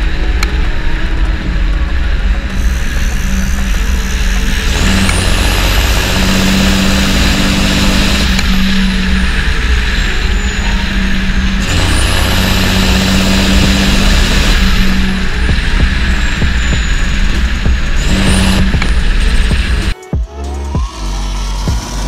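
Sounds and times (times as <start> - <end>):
small motor humming: 0.0 - 20.0.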